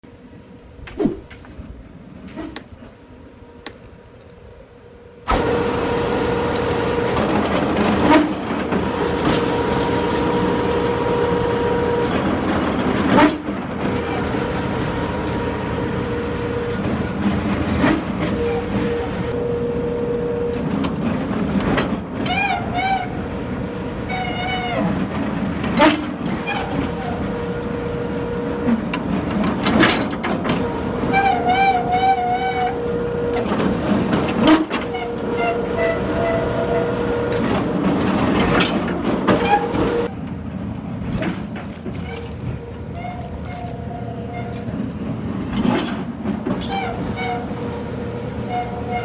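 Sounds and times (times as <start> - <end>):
machine motor humming: 5.3 - 40.1, 41.4 - 49.0.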